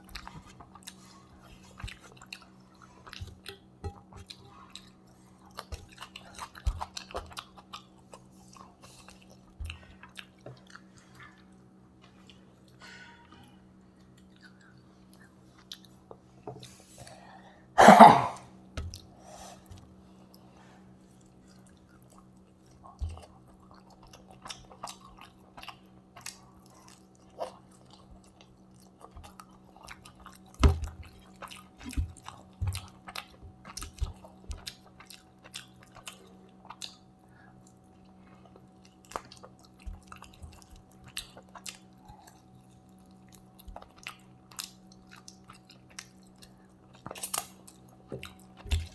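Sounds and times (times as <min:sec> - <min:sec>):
chewing and mouth sounds: 0:00.0 - 0:17.2, 0:18.8 - 0:48.9
faint steady hum: 0:00.0 - 0:48.9.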